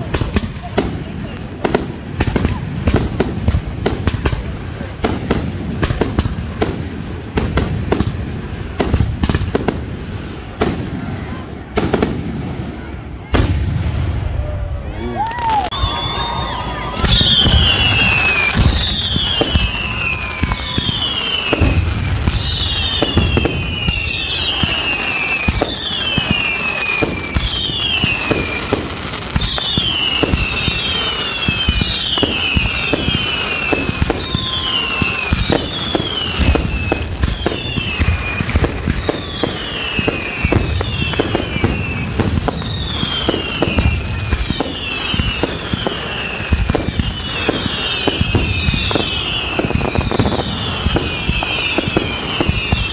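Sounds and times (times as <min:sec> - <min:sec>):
fireworks popping and crackling: 0:00.0 - 0:52.9
low fireworks booms: 0:00.0 - 0:52.9
whistling fireworks: 0:00.0 - 0:52.9.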